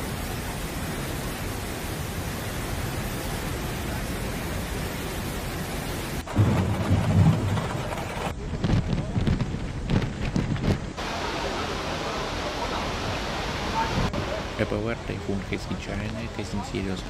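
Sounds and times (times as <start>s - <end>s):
rushing floodwater torrent: 0.0s - 8.6s, 10.8s - 17.0s
storm wind and rain: 0.0s - 17.0s.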